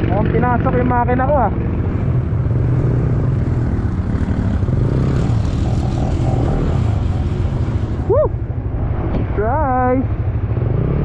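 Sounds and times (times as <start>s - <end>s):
motorcycle engine running: 0.0s - 11.0s
tyres on wet road: 0.0s - 11.0s
wind: 0.0s - 11.0s.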